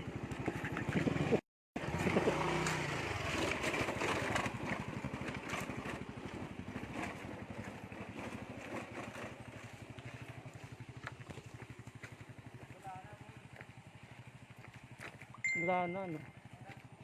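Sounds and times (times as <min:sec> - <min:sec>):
motorcycle engine pulsing: 0:00.0 - 0:17.0.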